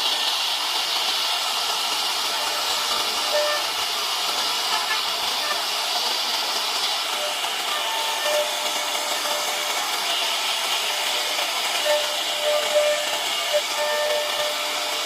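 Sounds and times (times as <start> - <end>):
router bit hissing through wood: 0.0 - 15.0.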